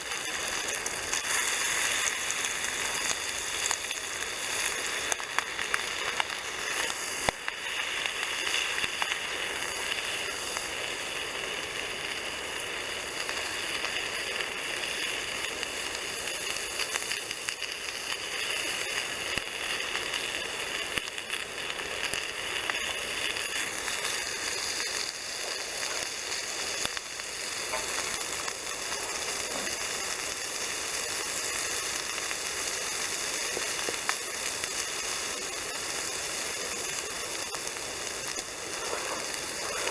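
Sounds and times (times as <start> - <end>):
bacon sizzling in a frying pan: 0.0 - 39.9.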